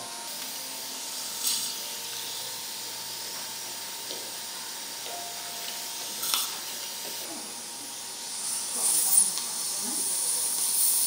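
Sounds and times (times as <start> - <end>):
dental suction hiss: 0.2 - 11.0.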